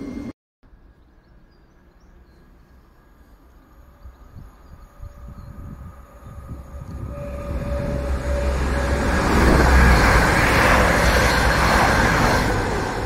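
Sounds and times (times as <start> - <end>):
diesel train passing at speed: 0.0 - 13.0
steady warning tone: 2.5 - 13.0.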